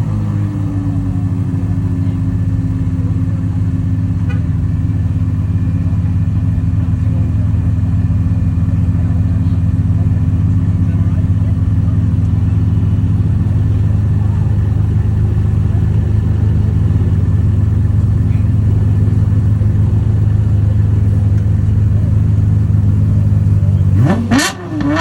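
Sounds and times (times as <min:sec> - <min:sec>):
car engine idling: 0:00.0 - 0:25.0
car engine revving: 0:00.0 - 0:25.0.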